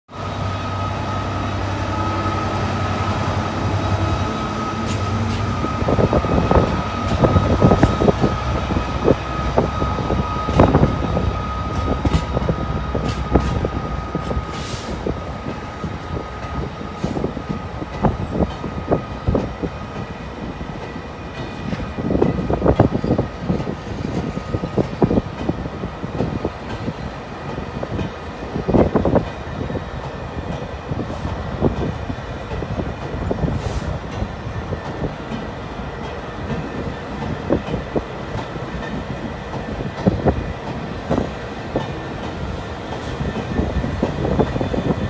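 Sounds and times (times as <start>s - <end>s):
diesel locomotive engine running: 0.1s - 45.0s.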